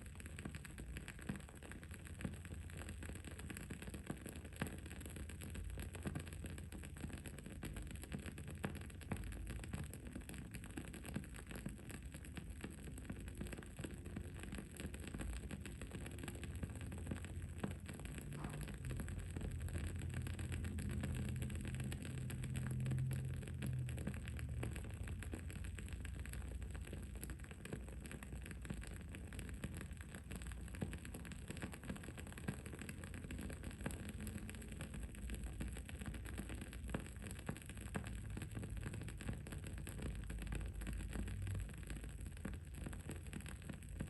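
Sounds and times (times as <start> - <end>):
candle crackling: 0.0 - 44.0
low background rumble: 0.0 - 44.0.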